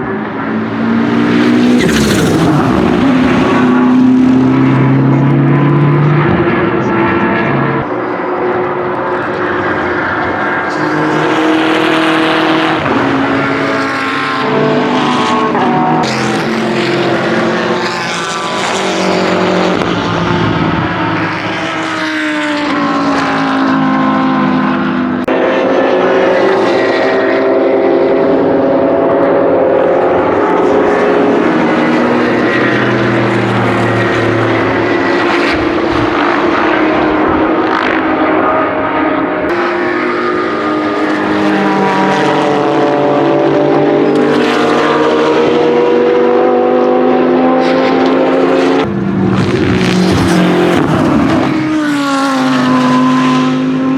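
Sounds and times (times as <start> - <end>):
racing engine revving: 0.0 - 53.9.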